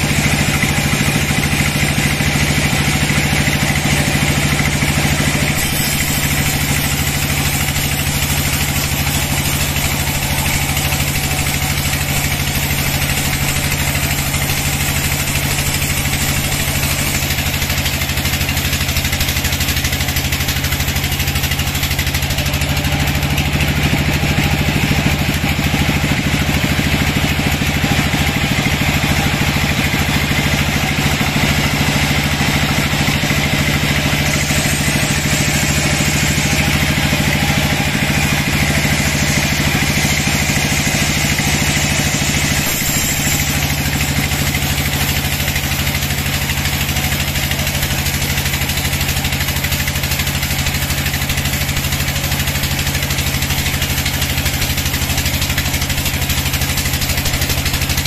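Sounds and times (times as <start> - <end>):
bandsaw cutting log: 0.0 - 58.0.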